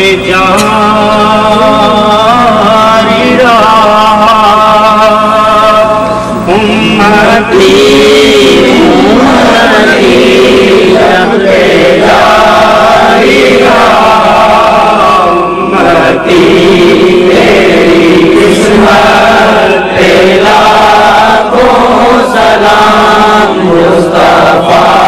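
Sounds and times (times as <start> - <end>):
men chanting: 0.0 - 25.0
person singing into a microphone: 0.0 - 25.0.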